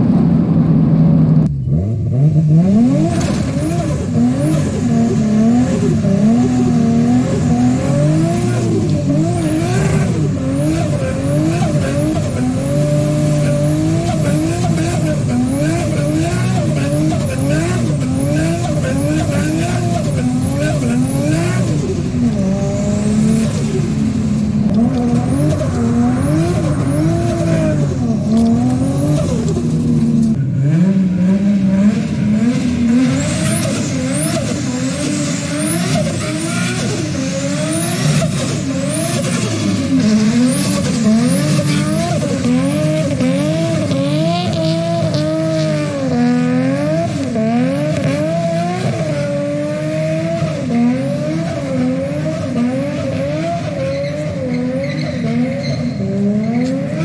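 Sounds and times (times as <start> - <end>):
car engine revving hard: 0.0 - 57.0
tyres skidding: 0.0 - 57.0.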